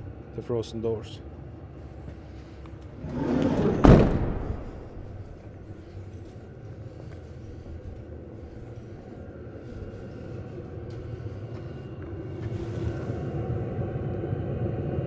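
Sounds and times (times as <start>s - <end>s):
heater combustion rumble: 1.3s - 15.0s.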